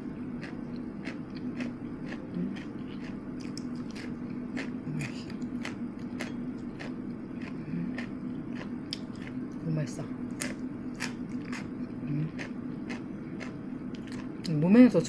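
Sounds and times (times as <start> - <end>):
crunchy chewing of fried food: 0.0 - 9.6, 10.2 - 14.5
steady low hum: 0.0 - 15.0.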